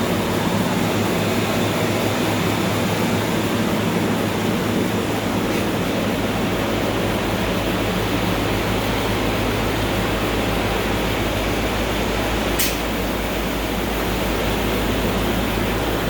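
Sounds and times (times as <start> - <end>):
oxygen machine humming: 0.0 - 16.0.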